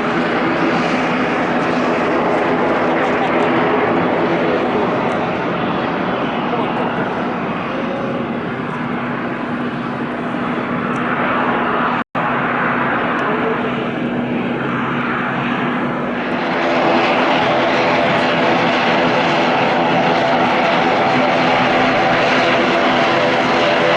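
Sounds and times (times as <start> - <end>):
airliner engines running: 0.0 - 23.9
pitched engine whine: 0.0 - 23.9.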